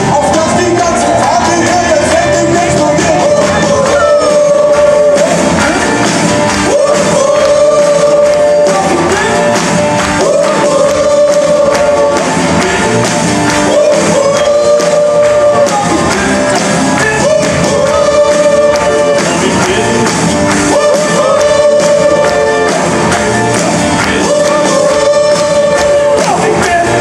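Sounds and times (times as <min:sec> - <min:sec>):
live pop-rock band playing: 0:00.0 - 0:27.0
singer holding long notes: 0:00.0 - 0:27.0.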